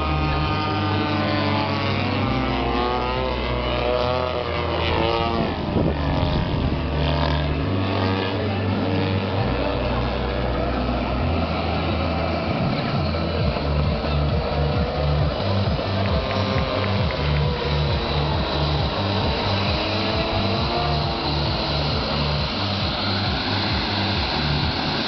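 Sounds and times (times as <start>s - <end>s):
model aeroplane motor whining: 0.0s - 25.0s.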